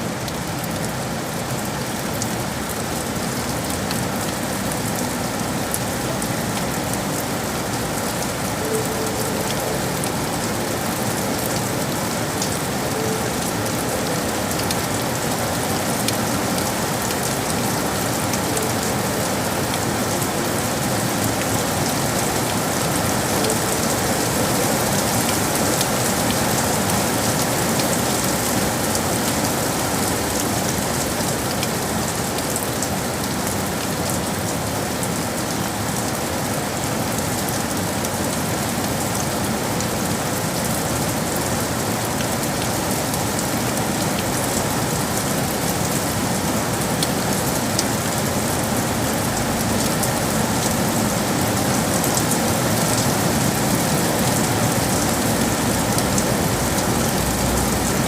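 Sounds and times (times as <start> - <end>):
rain falling on hard surfaces: 0.0 - 58.0.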